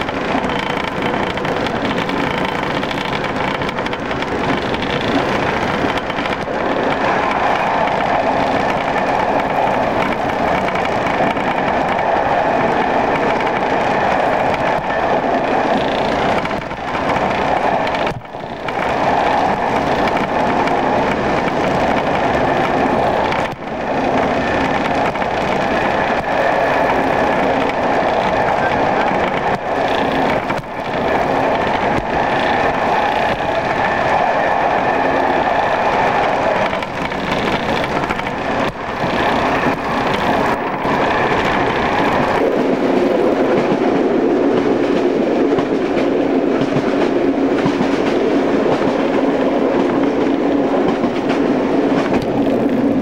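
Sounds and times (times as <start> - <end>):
train wheel and running noise: 0.0 - 53.0.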